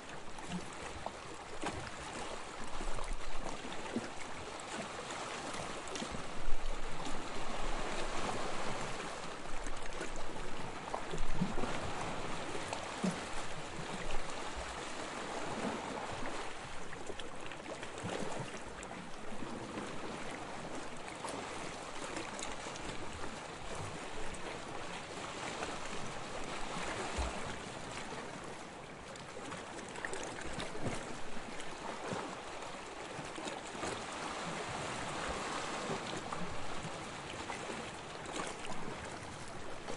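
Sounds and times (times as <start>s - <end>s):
small waves lapping: 0.0s - 39.9s
water splashes: 0.0s - 39.9s.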